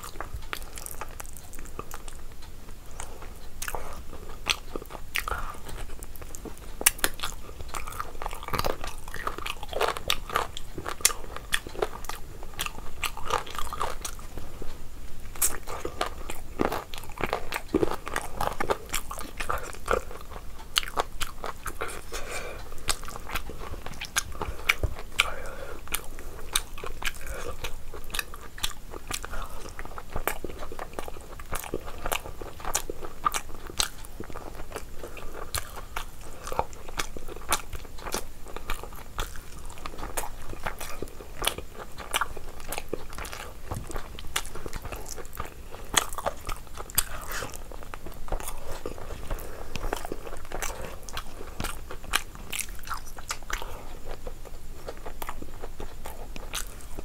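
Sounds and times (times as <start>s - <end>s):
chewing food: 0.0s - 57.0s.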